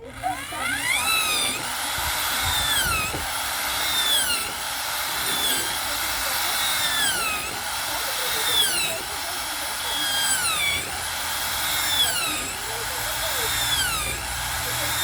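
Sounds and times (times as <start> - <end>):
electric power tool motor cutting: 0.0 - 15.0.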